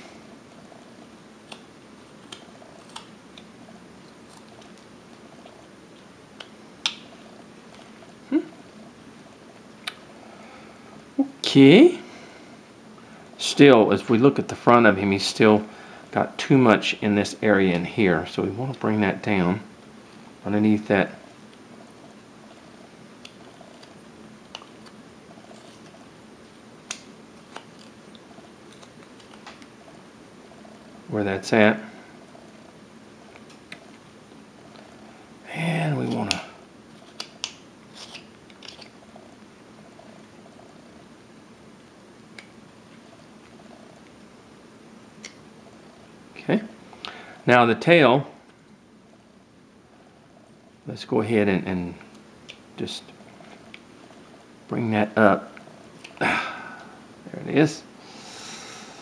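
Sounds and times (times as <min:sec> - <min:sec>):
low steady background noise: 0:00.0 - 0:59.0.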